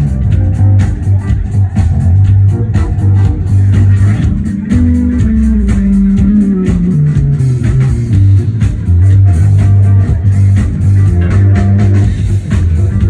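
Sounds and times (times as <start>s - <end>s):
drum hits: 0.0s - 13.0s
held low bass notes: 0.0s - 13.0s
live rock band playing loud: 0.0s - 13.0s.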